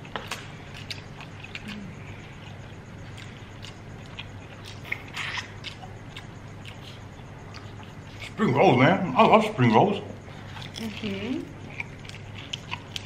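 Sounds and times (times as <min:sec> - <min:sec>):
chewing and wet mouth noises: 0:00.0 - 0:08.4, 0:10.2 - 0:13.0.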